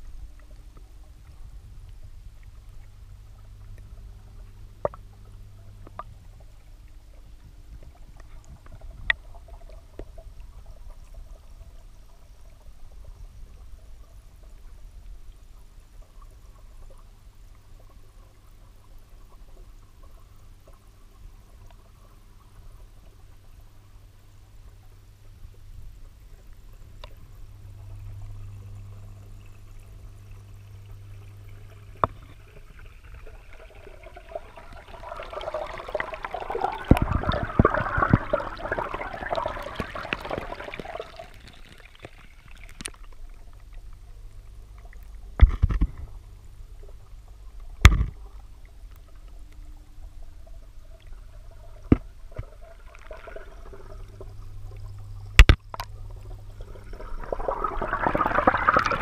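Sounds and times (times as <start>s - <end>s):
low steady hum: 0.0s - 59.0s
underwater bubbling: 0.0s - 59.0s.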